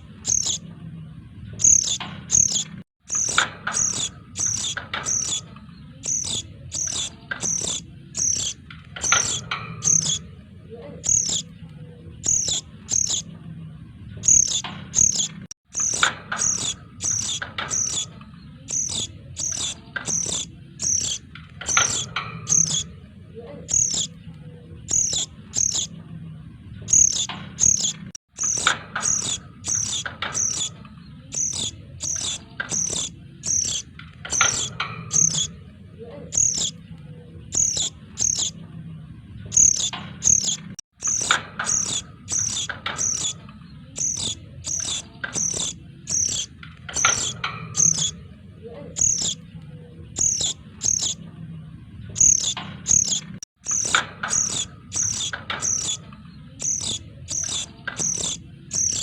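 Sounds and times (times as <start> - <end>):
lower bird calls: 0.0 - 0.6, 1.6 - 10.3, 11.0 - 11.5, 12.2 - 13.3, 14.2 - 22.9, 23.6 - 24.2, 24.9 - 25.9, 26.9 - 35.6, 36.3 - 36.8, 37.5 - 38.6, 39.5 - 48.2, 48.9 - 49.4, 50.2 - 51.2, 52.2 - 59.0
young birds chirping: 0.0 - 0.6, 1.6 - 10.3, 11.0 - 11.6, 12.2 - 13.3, 14.2 - 22.9, 23.6 - 25.9, 26.9 - 35.6, 36.3 - 36.8, 37.5 - 38.6, 39.5 - 48.2, 48.9 - 49.4, 50.2 - 51.2, 52.2 - 59.0.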